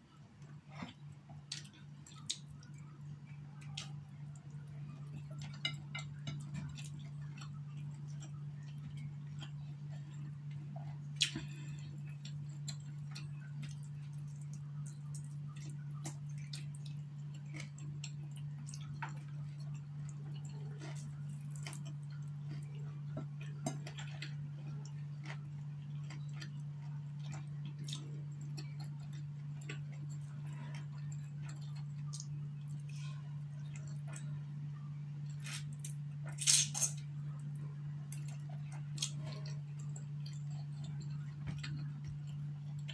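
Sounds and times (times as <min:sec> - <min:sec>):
steady low hum: 0:00.0 - 0:42.9
chewing and lip smacks: 0:00.4 - 0:34.4, 0:35.2 - 0:42.9.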